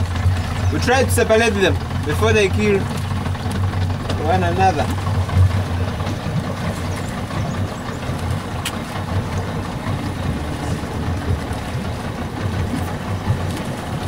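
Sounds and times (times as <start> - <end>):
faint splashing in water: 0.0 - 14.0
idling motor hum: 0.0 - 14.0.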